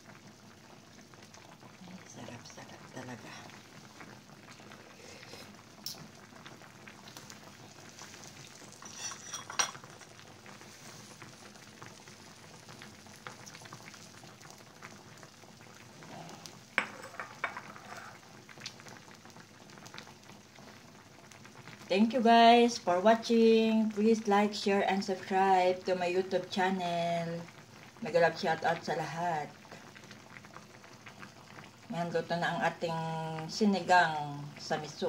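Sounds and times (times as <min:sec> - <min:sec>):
soup bubbling in a pot: 0:00.0 - 0:35.0.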